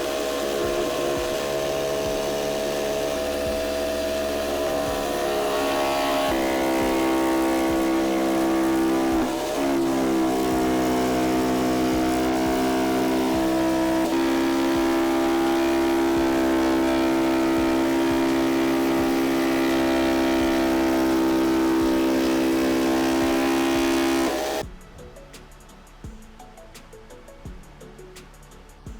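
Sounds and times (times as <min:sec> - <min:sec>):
electric power tool motor humming: 0:00.0 - 0:24.6.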